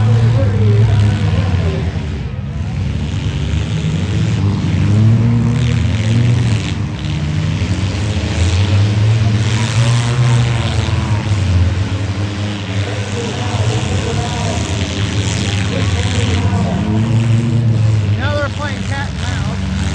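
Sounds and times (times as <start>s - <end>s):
car engines revving: 0.0s - 19.9s.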